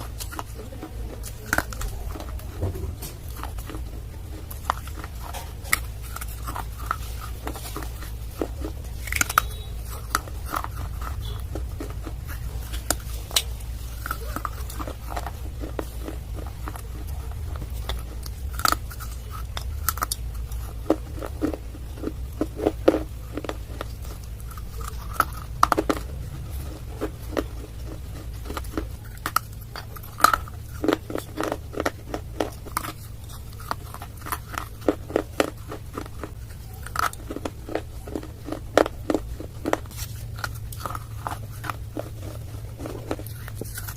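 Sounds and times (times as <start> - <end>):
clay being chewed: 0.0 - 43.9
steady low hum: 0.0 - 43.9.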